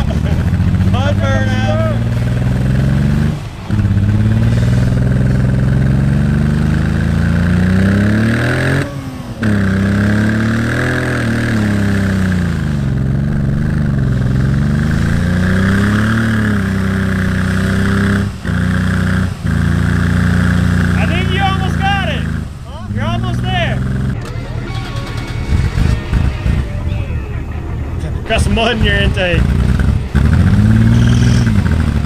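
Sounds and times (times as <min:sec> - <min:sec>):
car engine revving hard: 0:00.0 - 0:24.2, 0:28.3 - 0:32.0.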